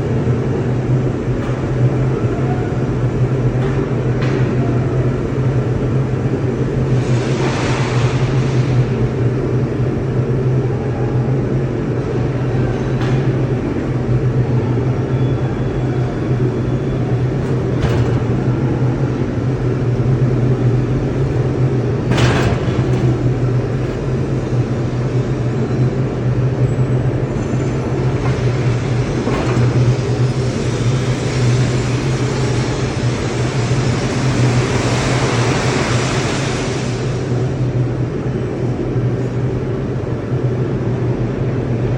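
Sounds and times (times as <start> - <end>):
continuous roar: 0.0 - 41.9
furnace deep hum: 0.0 - 41.9.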